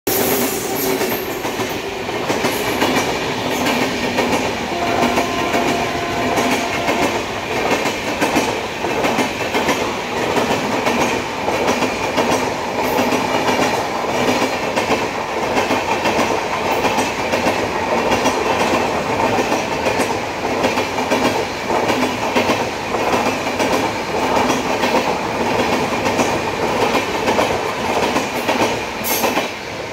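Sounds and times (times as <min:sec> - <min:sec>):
train wheels rushing on rails: 0:00.1 - 0:29.9
clickety-clack over rail joints: 0:00.2 - 0:29.8.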